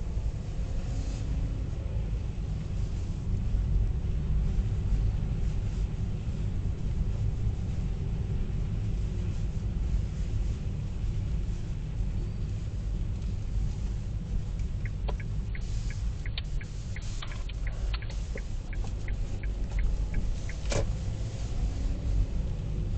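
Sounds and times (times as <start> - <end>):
car engine rumble: 0.0 - 22.9.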